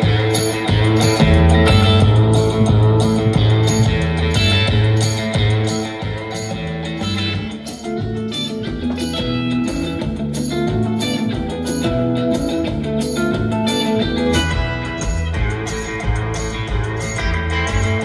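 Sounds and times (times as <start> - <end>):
instrumental music through small speaker: 0.0 - 18.0.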